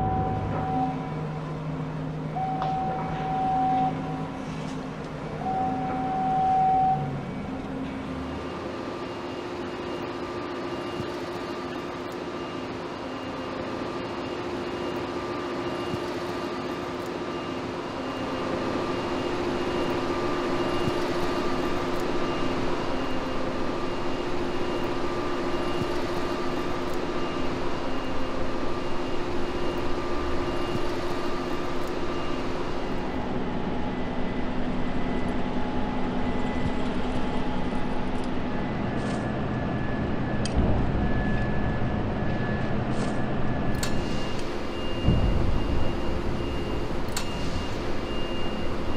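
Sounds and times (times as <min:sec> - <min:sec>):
machinery rumble: 0:00.0 - 0:48.9
steady humming tones: 0:00.0 - 0:48.9.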